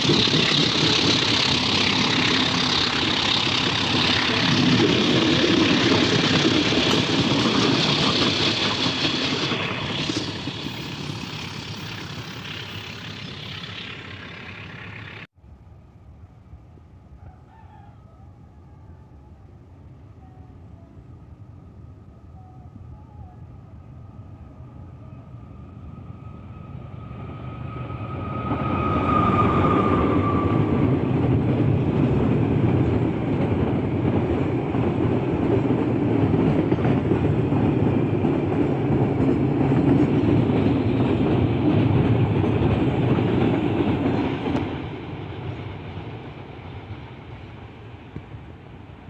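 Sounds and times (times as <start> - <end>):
train passing at speed: 0.0 - 49.0.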